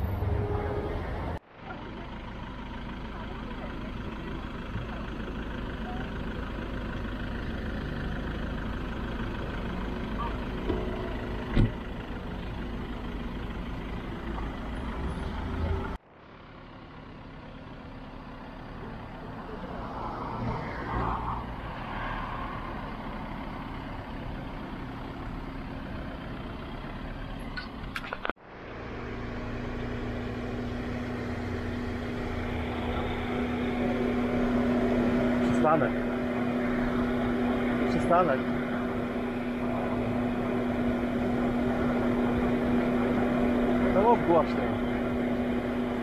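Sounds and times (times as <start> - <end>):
city road traffic: 0.0 - 46.0
low engine hum: 0.0 - 46.0.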